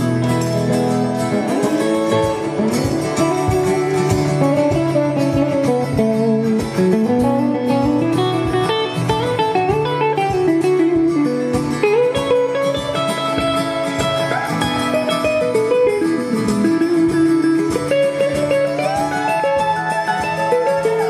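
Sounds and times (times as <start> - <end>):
acoustic guitar: 0.0 - 21.0
electric guitar: 0.0 - 21.0.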